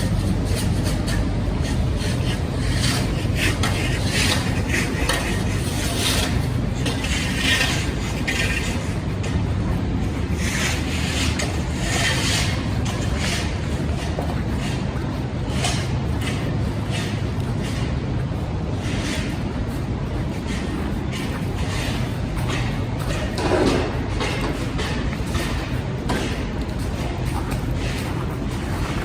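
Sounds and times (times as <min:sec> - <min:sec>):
traffic rumble: 0:00.0 - 0:29.0
short scraping sounds: 0:00.1 - 0:29.0.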